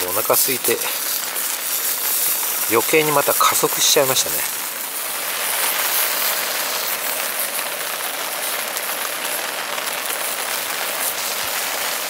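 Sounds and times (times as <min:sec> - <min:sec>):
rain on a tarp: 0:00.0 - 0:12.0
sausages sizzling in frying pan: 0:00.0 - 0:12.0.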